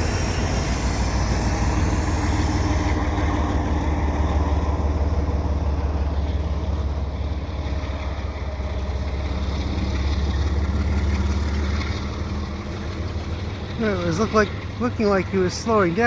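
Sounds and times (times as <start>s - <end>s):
freight train rumbling by: 0.0s - 16.0s.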